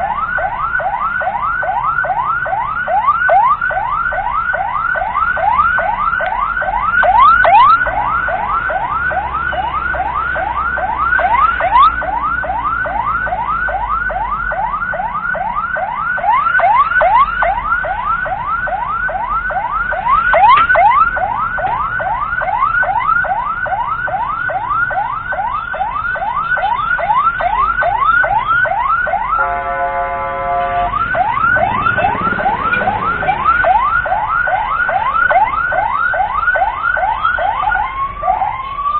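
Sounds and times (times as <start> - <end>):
ambulance siren yelping: 0.0 - 38.9
horn-like siren blare: 0.0 - 38.9
low vehicle rumble: 0.0 - 38.9.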